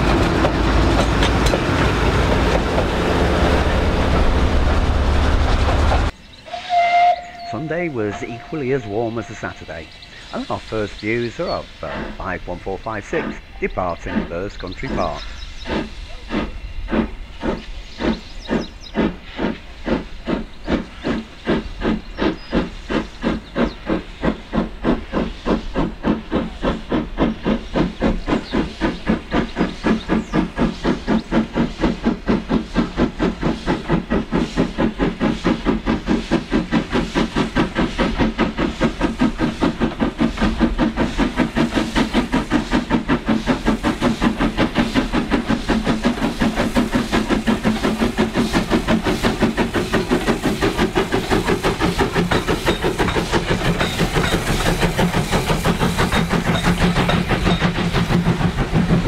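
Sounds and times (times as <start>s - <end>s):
steam locomotive exhaust chuffs: 0.0s - 59.0s.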